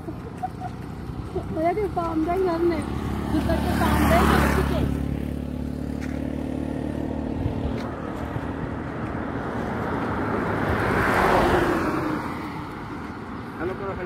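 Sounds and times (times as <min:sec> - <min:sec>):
engine hum: 0:00.0 - 0:14.0
vehicle passing by: 0:00.0 - 0:14.0.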